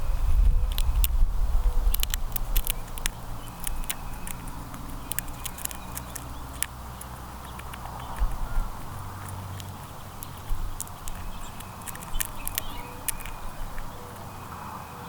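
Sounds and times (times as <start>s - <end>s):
small animals pecking seed: 0.0s - 14.7s.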